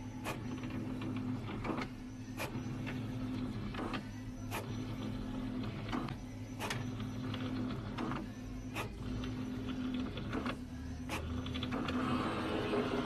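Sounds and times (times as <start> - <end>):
small machine humming: 0.0 - 13.0.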